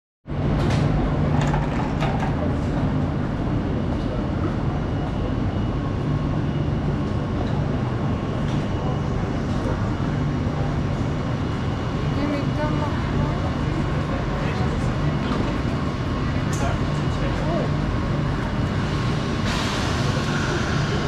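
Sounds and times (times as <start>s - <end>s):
standing train humming: 0.3s - 21.0s.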